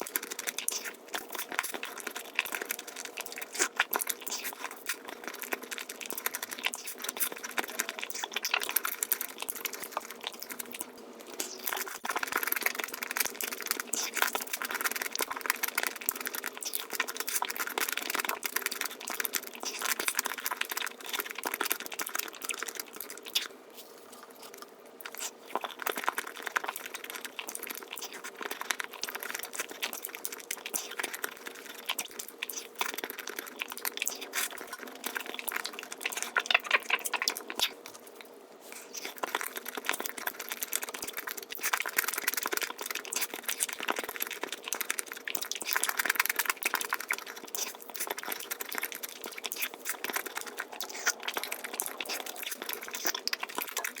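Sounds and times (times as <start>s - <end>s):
sped-up chewing clicks and smacks: 0.0s - 23.6s, 24.2s - 54.0s.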